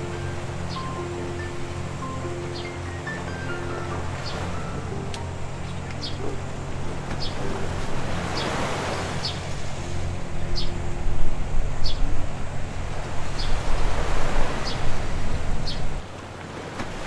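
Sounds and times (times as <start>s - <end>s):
low steady hum: 0.0s - 17.0s
waves washing on beach: 0.0s - 17.0s.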